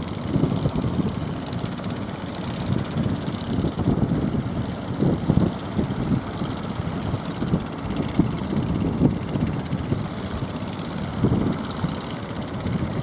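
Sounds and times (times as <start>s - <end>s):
sea and surf: 0.0s - 13.0s
wind gusts on microphone: 0.0s - 13.0s.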